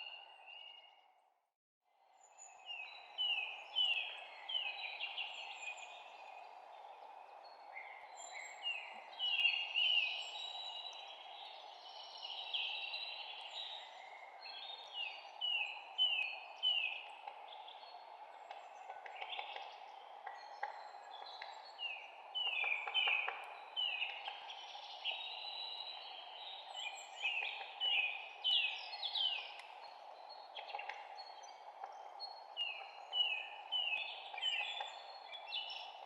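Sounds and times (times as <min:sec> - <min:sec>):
songbirds chirping: 0:00.0 - 0:01.3, 0:02.0 - 0:36.0
steady background hiss: 0:02.6 - 0:36.0.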